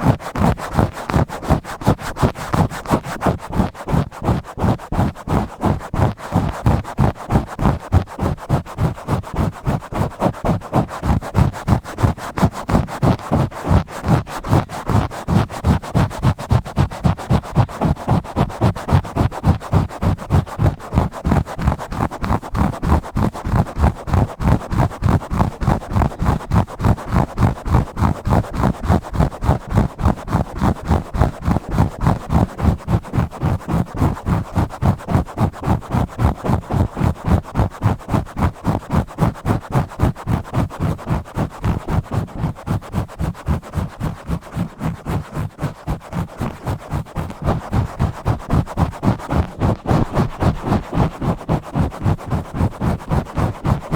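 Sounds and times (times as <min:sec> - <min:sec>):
scratching on a microphone: 0:00.0 - 0:53.9.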